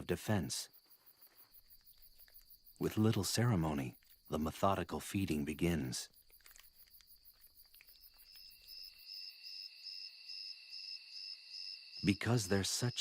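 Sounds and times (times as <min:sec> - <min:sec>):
crickets chirping: 0:00.0 - 0:13.0
lower steady insect trill: 0:00.0 - 0:13.0.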